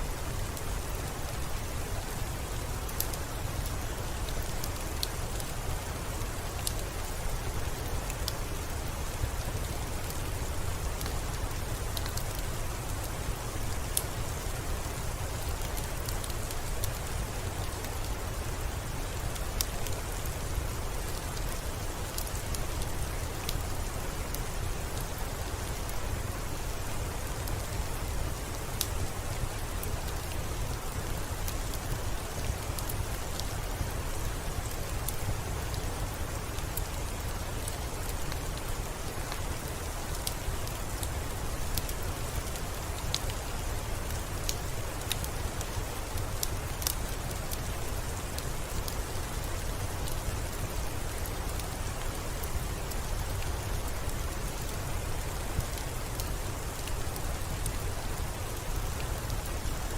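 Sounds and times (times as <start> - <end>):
steady rainfall hiss: 0.0 - 59.9
raindrops ticking close by: 0.2 - 59.9.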